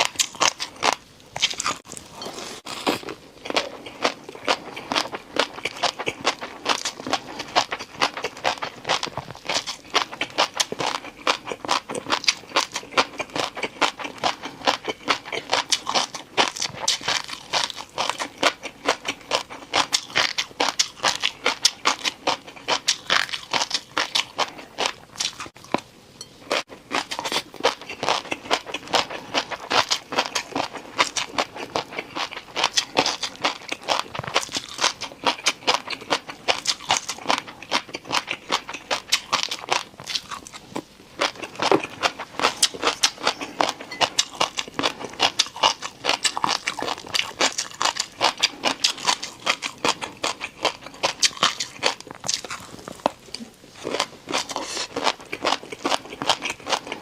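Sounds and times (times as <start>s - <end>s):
chewing crunchy noodles: 0.0s - 57.0s.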